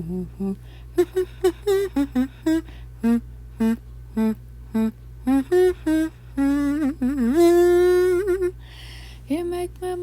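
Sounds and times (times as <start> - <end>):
person singing staccato notes: 0.0 - 8.6.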